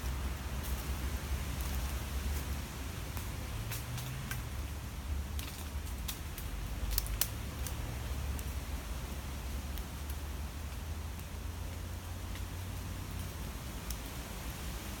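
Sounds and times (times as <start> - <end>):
twigs and dry leaves crackling: 0.0 - 14.2.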